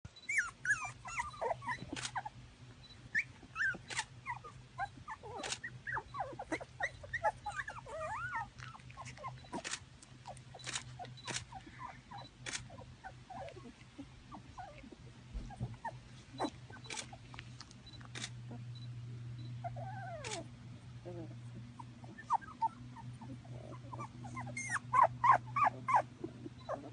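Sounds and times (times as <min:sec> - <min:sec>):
dogs whimpering: 0:00.1 - 0:02.4, 0:03.1 - 0:17.4, 0:19.6 - 0:26.9
low steady hum: 0:00.1 - 0:26.9.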